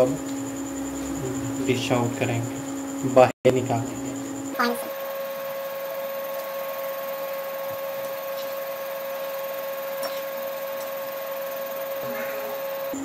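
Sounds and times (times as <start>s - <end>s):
electric cooktop hum: 0.0s - 13.0s.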